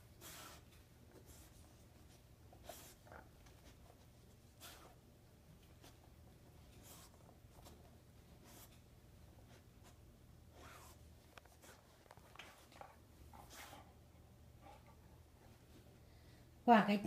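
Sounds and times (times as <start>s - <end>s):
scratchy rustles of blanket: 0.0s - 14.0s.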